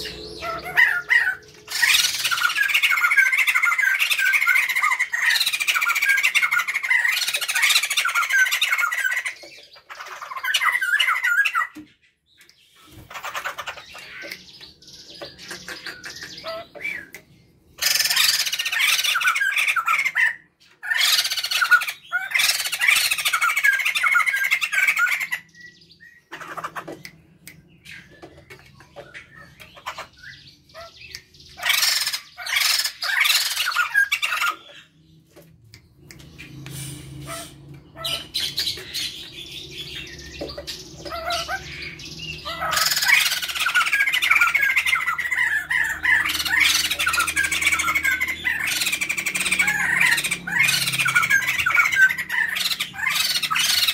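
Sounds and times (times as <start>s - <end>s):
birds chattering calls: 0.0s - 53.9s.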